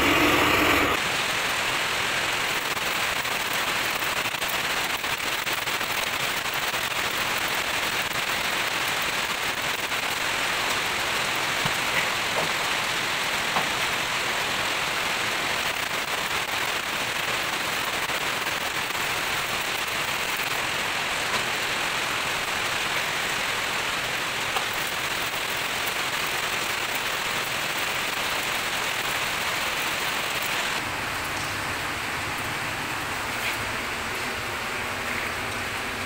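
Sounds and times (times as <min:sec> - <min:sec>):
welding arc crackling and sizzling: 0:00.0 - 0:36.0.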